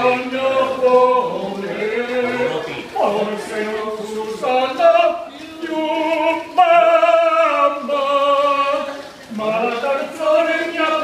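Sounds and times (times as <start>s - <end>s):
man singing a cappella: 0.0s - 11.0s
other voice singing: 0.0s - 11.0s.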